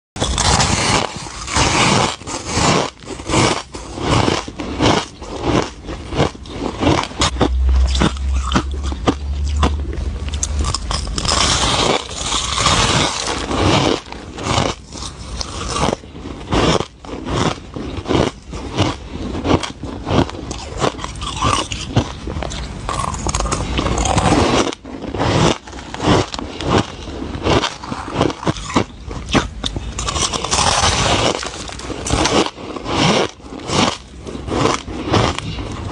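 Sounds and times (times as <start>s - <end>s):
ice being chewed: 0.2s - 35.9s.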